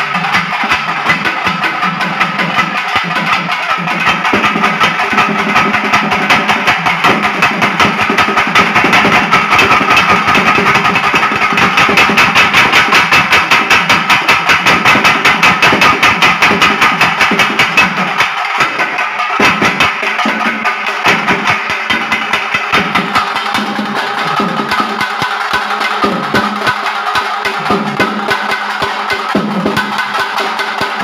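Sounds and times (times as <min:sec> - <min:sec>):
folk drum ensemble: 0:00.0 - 0:31.0.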